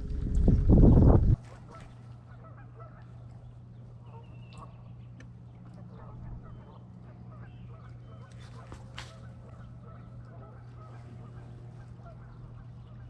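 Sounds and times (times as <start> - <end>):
steady low hum: 0.0 - 13.0
geese honking in distance: 1.3 - 13.0.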